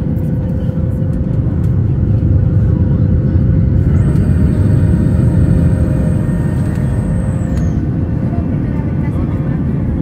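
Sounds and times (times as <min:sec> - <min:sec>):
faint steady whine: 0:00.0 - 0:10.0
jet engine and airflow rumble: 0:00.0 - 0:10.0.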